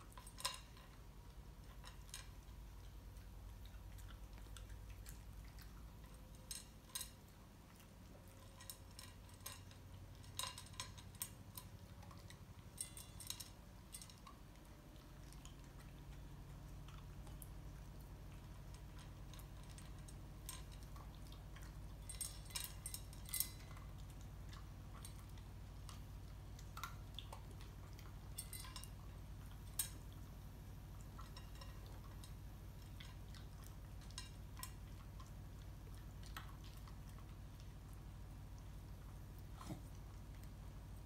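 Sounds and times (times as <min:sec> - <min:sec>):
dog eating from metal bowl: 0:00.0 - 0:41.0
steady low hum: 0:00.0 - 0:41.0.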